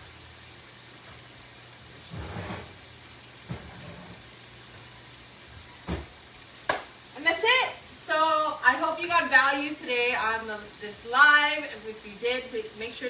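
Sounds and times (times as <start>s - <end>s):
food hissing on stove: 0.0s - 13.0s.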